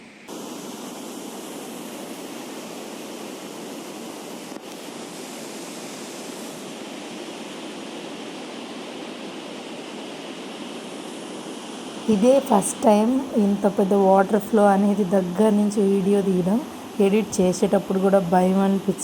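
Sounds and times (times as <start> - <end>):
water rushing at a dam: 0.3 - 19.0.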